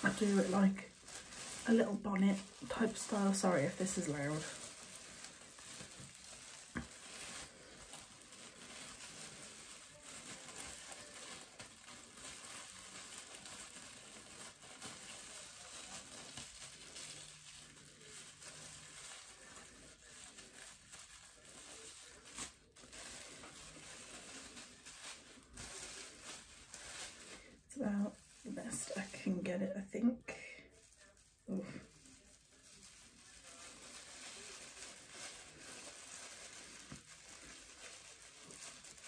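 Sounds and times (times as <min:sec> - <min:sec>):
plastic cape crinkling: 0:00.0 - 0:39.0.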